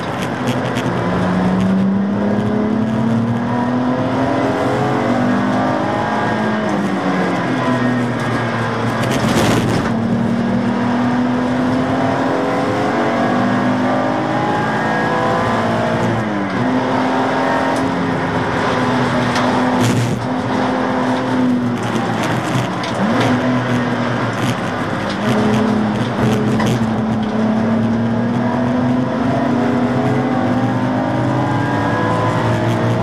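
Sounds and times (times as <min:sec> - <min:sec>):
race car engine accelerating: 0:00.0 - 0:33.0.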